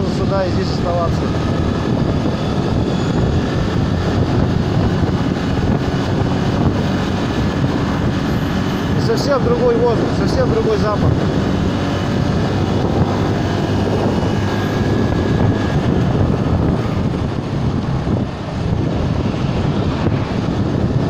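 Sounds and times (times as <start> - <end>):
wind rushing over microphone: 0.0 - 21.0
motorcycle engine running: 0.8 - 21.0.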